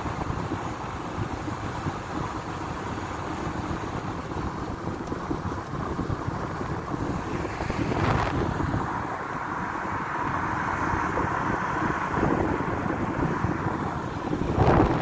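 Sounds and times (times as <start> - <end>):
tyres and engine rumble: 0.0 - 15.0
wind noise: 0.0 - 15.0.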